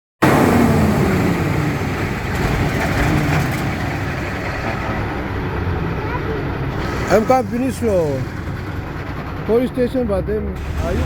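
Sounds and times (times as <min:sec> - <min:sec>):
truck engine running: 0:00.2 - 0:11.0.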